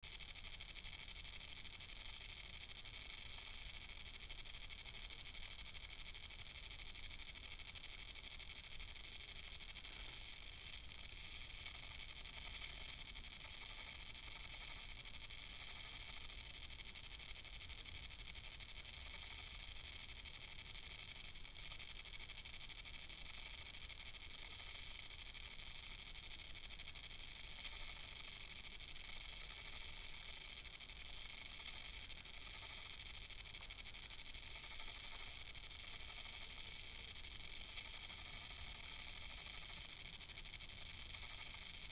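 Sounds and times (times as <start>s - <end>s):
faint steady hiss: 0.0s - 41.9s.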